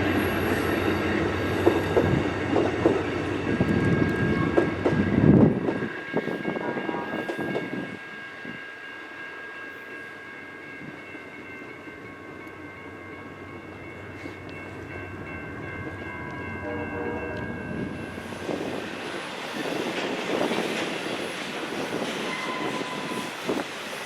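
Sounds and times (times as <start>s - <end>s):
train passing on rails: 0.0s - 24.0s.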